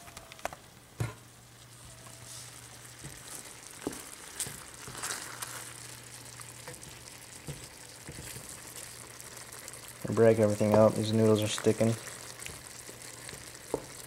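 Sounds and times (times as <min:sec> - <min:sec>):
food sizzling in a pan: 0:00.9 - 0:14.0.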